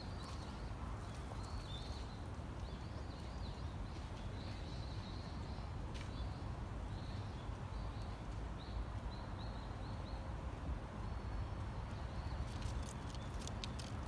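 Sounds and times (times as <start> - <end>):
small birds chirping: 0.0 - 10.3, 11.0 - 14.0.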